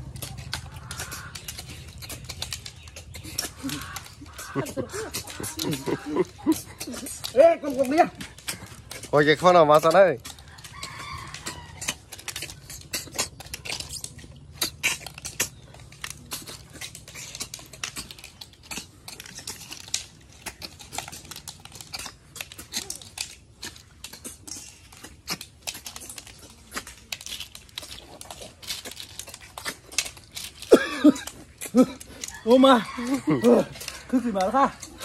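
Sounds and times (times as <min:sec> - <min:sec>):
snail shells clicking on plates: 0:00.0 - 0:35.0.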